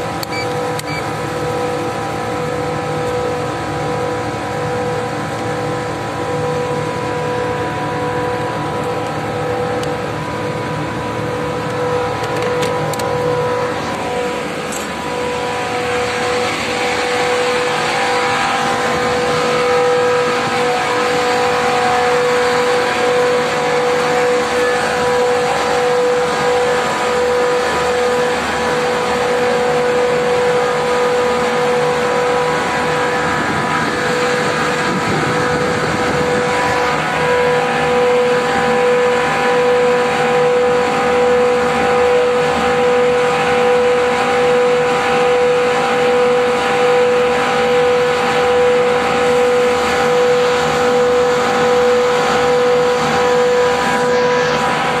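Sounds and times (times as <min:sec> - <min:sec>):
chiller compressor whining: 0:00.0 - 0:55.0.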